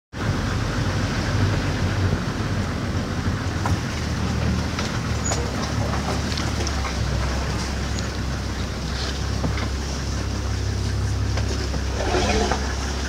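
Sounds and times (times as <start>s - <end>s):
vehicle engine rumbling: 0.1s - 13.0s.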